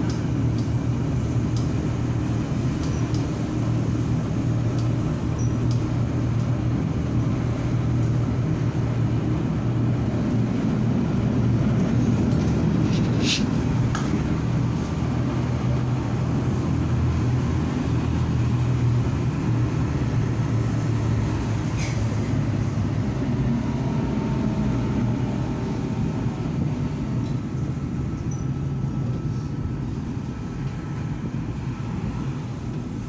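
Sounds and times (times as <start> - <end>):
bus running rumble: 0.0 - 33.0.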